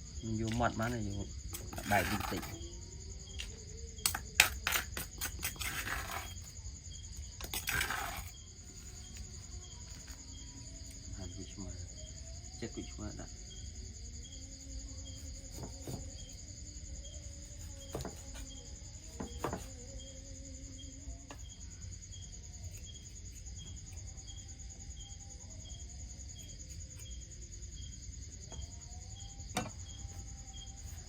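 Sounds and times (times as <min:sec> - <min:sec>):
crickets and insects chirping: 0:00.0 - 0:31.0.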